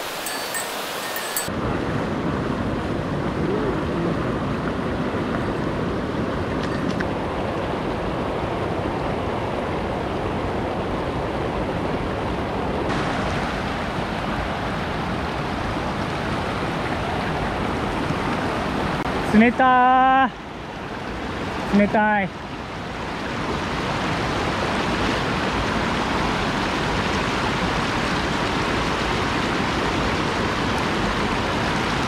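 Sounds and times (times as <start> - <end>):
mountain river rushing: 0.0 - 32.0.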